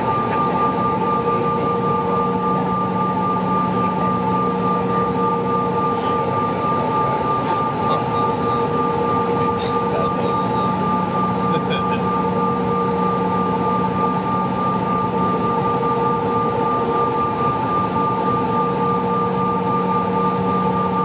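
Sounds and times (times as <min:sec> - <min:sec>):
jet engine drone: 0:00.0 - 0:21.0
steady whine tones: 0:00.0 - 0:21.0.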